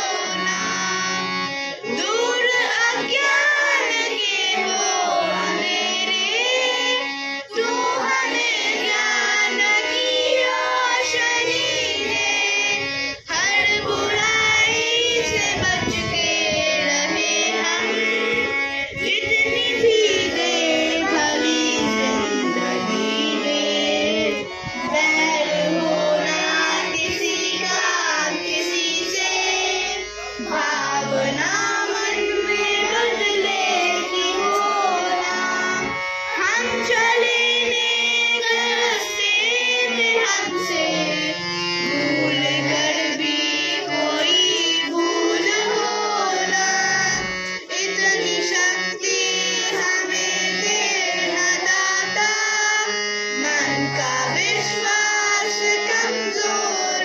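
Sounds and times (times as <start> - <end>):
boys singing prayer song: 0.0 - 57.0
harmonium holding notes: 0.0 - 57.0.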